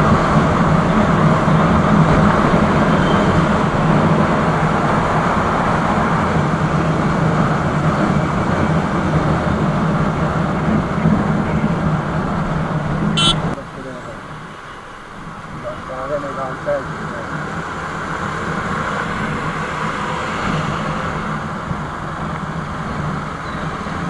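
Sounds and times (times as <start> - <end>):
motorcycle engine humming: 0.0 - 24.0.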